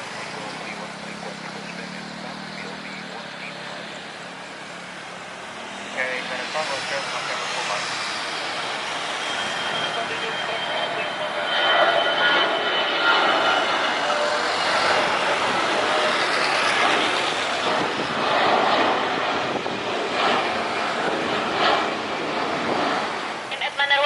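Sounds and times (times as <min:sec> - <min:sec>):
airliner engines roaring: 0:00.0 - 0:24.0
faint engine whine: 0:00.0 - 0:24.0.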